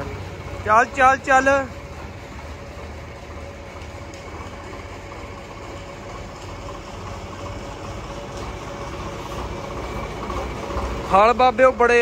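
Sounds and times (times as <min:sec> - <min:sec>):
tractor diesel engine rumbling: 0:00.0 - 0:12.0.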